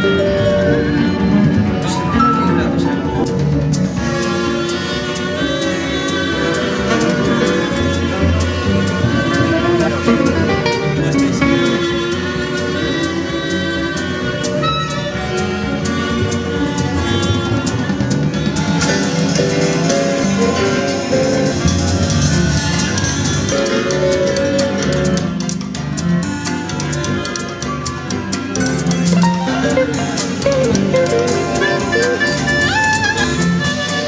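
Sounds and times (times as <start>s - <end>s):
double bass: 0.0s - 34.0s
drums keeping a steady beat: 0.0s - 34.0s
electric guitar: 0.0s - 34.0s
sustained melody notes: 0.0s - 34.0s.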